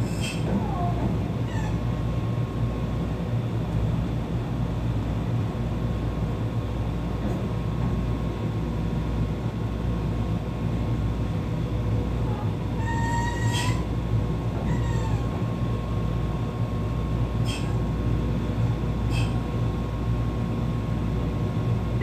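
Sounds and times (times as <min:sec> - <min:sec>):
electric train rumble and hum: 0:00.0 - 0:22.0.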